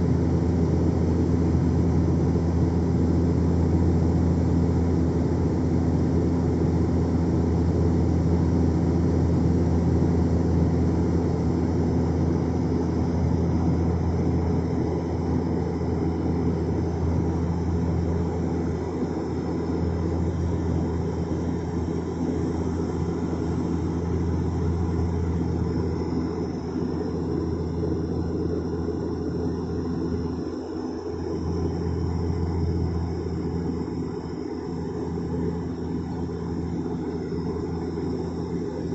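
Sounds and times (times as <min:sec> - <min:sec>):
aeroplane cabin engine drone: 0:00.0 - 0:38.9.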